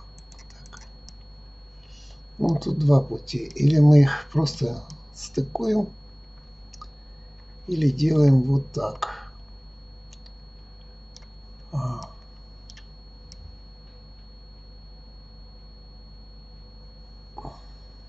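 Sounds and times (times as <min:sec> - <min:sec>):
steady hum with high whine: 0:00.0 - 0:18.0.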